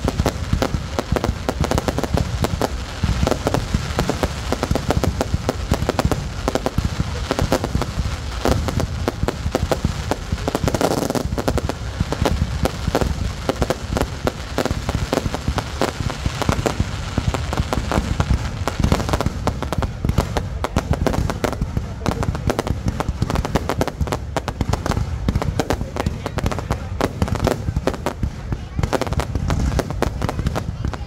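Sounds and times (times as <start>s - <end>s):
fireworks booming and crackling: 0.0s - 31.0s.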